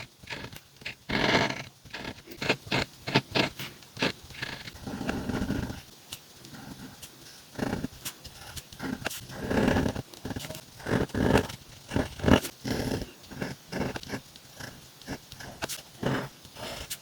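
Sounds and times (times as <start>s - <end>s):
pen nib scratching paper: 0.0s - 17.0s.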